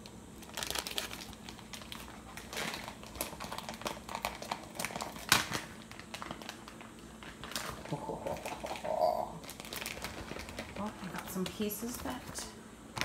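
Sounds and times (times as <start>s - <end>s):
plastic wrapping crinkling: 0.4s - 13.0s.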